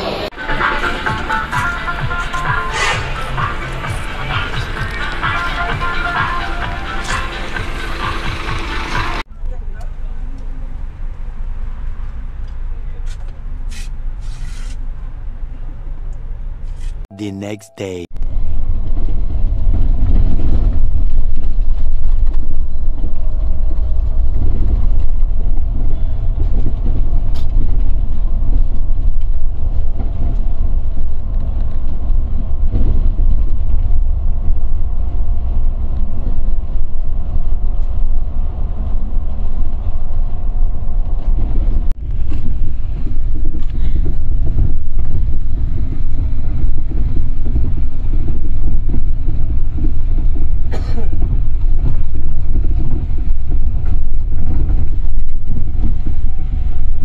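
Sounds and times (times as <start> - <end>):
engine and road rumble: 0.0 - 17.1, 18.2 - 57.0.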